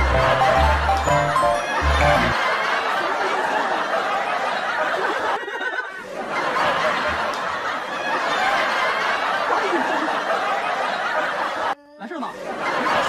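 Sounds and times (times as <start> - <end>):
people laughing and snickering: 0.0 - 13.0.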